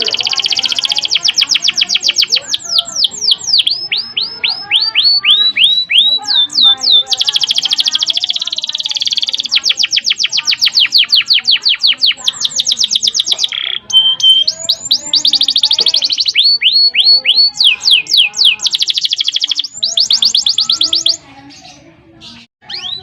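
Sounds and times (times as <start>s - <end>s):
canary trilling: 0.0s - 23.0s.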